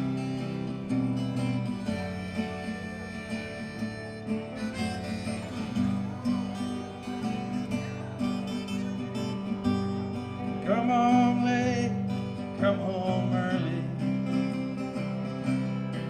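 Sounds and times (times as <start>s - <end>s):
acoustic country folk band: 0.0s - 16.0s.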